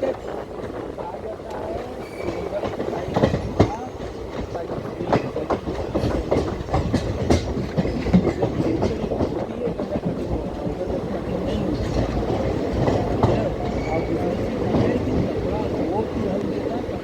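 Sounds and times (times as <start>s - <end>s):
train coach rumbling and rattling: 0.0s - 17.0s
train wheels clicking over joints: 0.0s - 17.0s.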